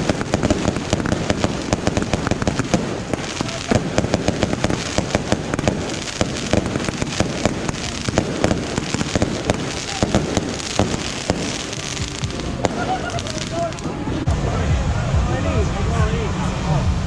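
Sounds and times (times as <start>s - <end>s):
firework bangs and cracks: 0.0s - 14.2s.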